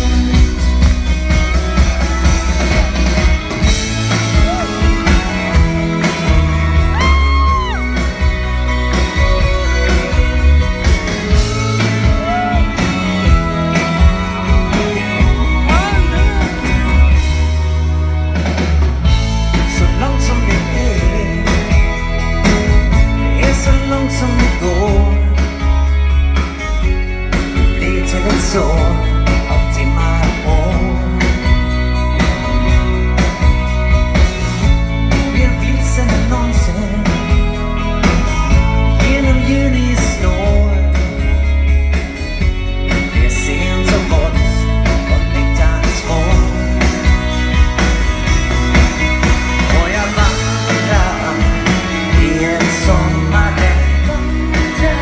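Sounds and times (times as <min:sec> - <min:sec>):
live pop-rock band playing: 0:00.0 - 0:55.0
person singing lead vocal: 0:02.0 - 0:18.3, 0:19.3 - 0:26.2, 0:27.4 - 0:32.4, 0:35.0 - 0:42.0, 0:42.9 - 0:47.3, 0:49.2 - 0:55.0.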